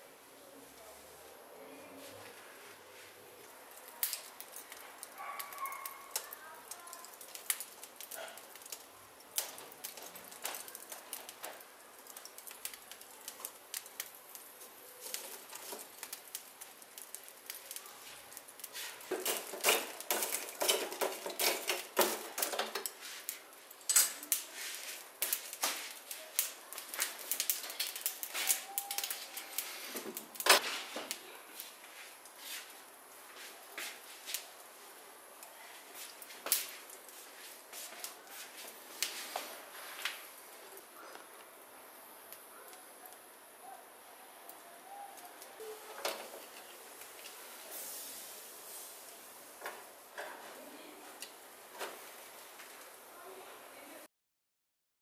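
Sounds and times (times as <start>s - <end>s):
charcoal fire crackling: 0.0s - 54.1s
metal rod stirring coals: 2.8s - 41.6s, 44.5s - 53.1s.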